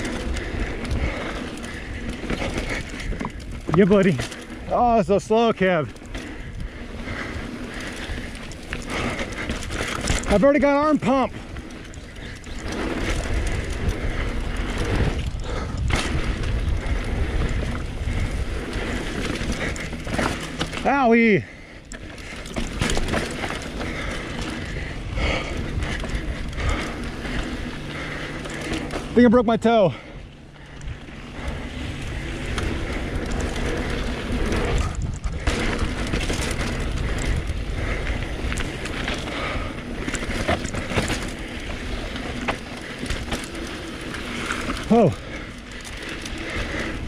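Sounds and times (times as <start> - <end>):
bike rattling and knocking: 0.0 - 47.0
wind and tyre rumble: 0.0 - 47.0.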